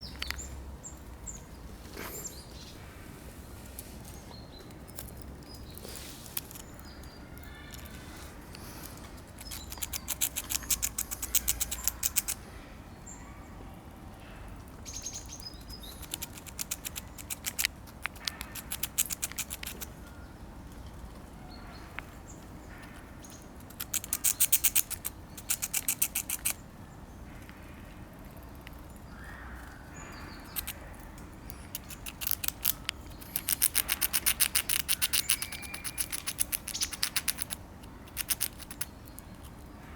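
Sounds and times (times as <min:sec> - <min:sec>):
squirrel clicking on nuts: 0:00.0 - 0:01.4, 0:04.6 - 0:12.4, 0:14.5 - 0:21.0, 0:21.7 - 0:26.6, 0:27.3 - 0:39.8.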